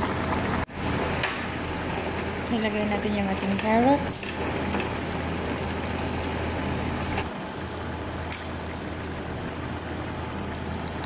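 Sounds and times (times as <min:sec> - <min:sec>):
pot bubbling: 0:00.0 - 0:11.0.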